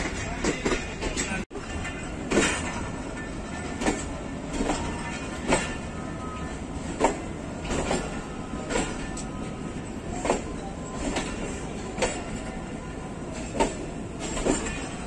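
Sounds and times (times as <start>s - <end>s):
train running gear rumble: 0.0s - 15.0s
wheels clacking over rail joints: 0.0s - 15.0s.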